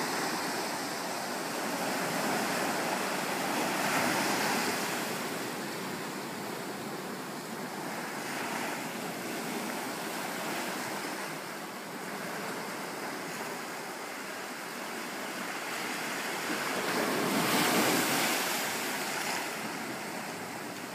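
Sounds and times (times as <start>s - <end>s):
ocean surf washing on rocks: 0.0s - 20.9s.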